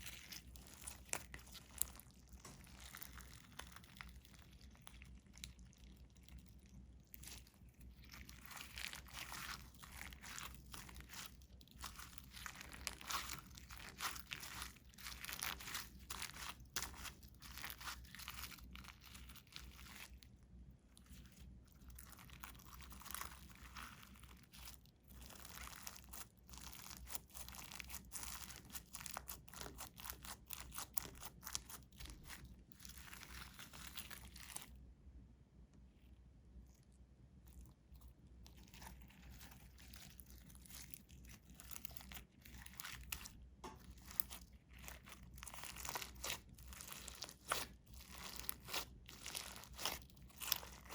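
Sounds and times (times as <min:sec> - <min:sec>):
slime squished by hand: 0:00.0 - 0:20.3, 0:21.0 - 0:34.8, 0:36.5 - 0:50.9.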